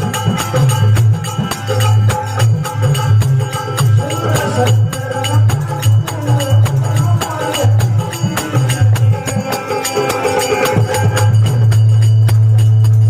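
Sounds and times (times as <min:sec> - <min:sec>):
hand percussion beat: 0:00.0 - 0:13.0.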